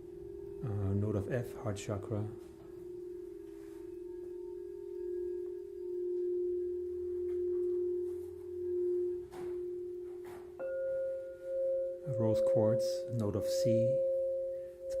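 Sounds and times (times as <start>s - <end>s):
crystal singing bowl ringing: 0.0s - 15.0s
higher crystal bowl tone: 0.0s - 15.0s.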